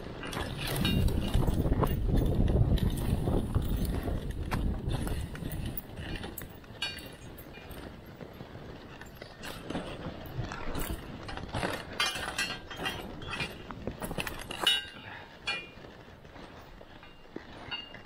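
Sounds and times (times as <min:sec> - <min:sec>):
sled harness clinking and rattling: 0:00.0 - 0:18.0.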